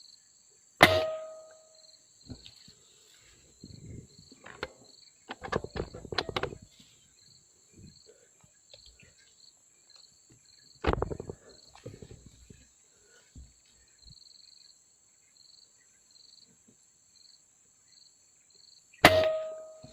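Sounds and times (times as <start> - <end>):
insects chirping: 0.0 - 19.9.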